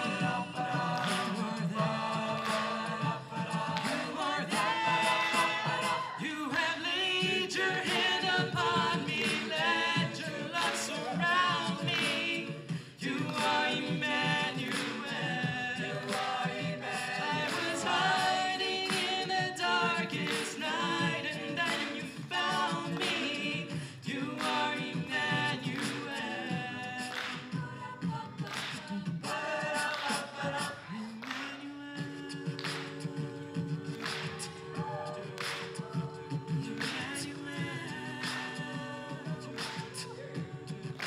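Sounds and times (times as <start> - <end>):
a cappella group singing: 0.0 - 41.0.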